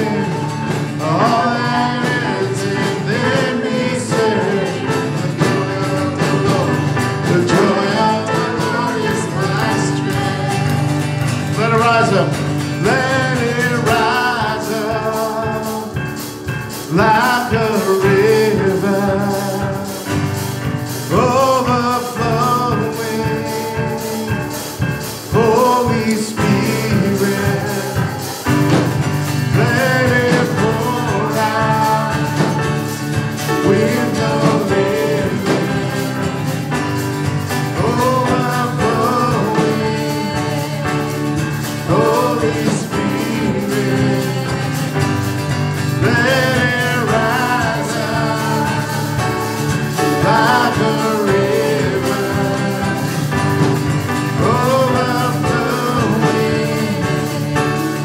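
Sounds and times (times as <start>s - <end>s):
acoustic guitar: 0.0s - 58.0s
keyboard: 0.0s - 58.0s
singers singing gospel song: 0.0s - 58.0s.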